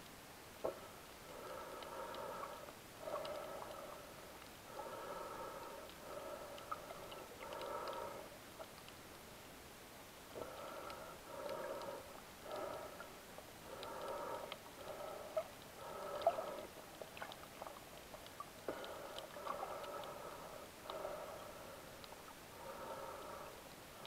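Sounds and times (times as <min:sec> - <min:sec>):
faint clicks: 0:00.0 - 0:09.3, 0:10.3 - 0:24.0.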